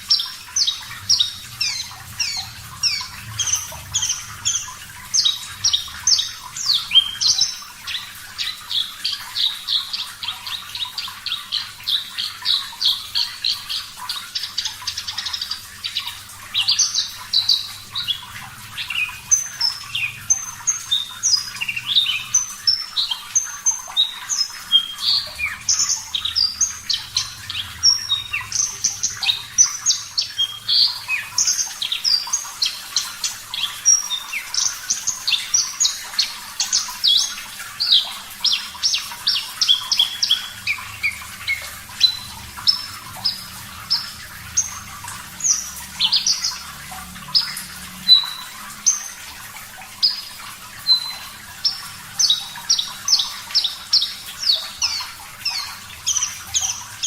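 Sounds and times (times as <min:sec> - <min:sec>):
bird singing high chirps and trills: 0:00.0 - 0:57.0.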